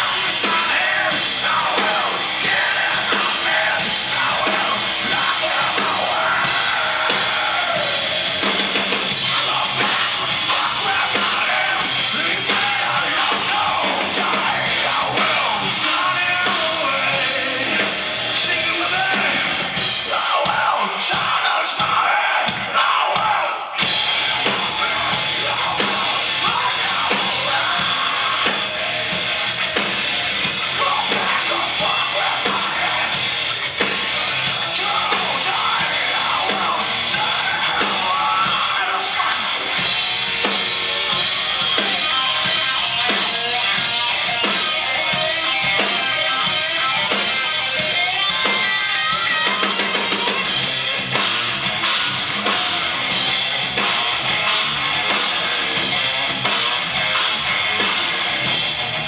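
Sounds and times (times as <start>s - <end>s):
bass guitar: 0.0s - 59.0s
drum kit: 0.0s - 59.0s
electric guitar: 0.0s - 59.0s
live rock band playing loud: 0.0s - 59.0s.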